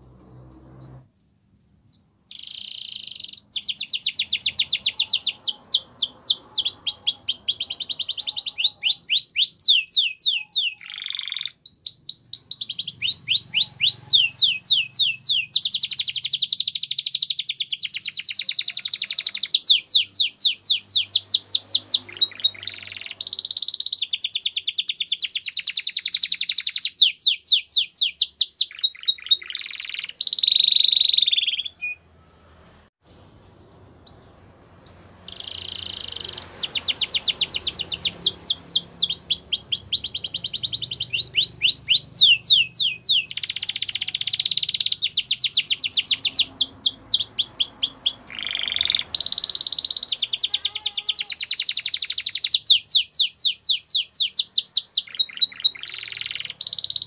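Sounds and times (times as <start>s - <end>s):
canary singing trills: 1.9s - 32.1s, 34.0s - 57.0s.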